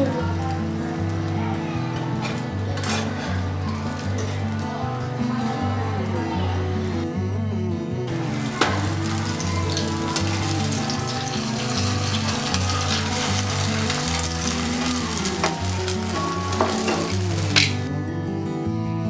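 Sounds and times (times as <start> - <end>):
flatbread sizzling in oil: 0.0 - 5.6, 8.1 - 17.9
soft background music: 0.0 - 19.0.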